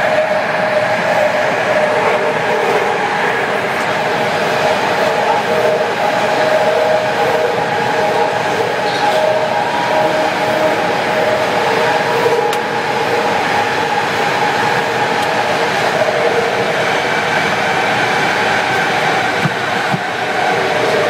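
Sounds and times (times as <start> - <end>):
subway train whine: 0.0 - 21.0
subway wheels rushing on track: 0.0 - 21.0.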